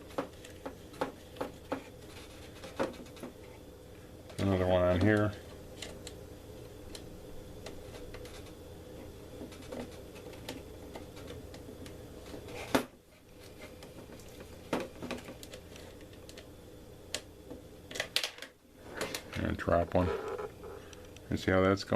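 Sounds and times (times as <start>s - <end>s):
low background hum: 0.0s - 21.9s.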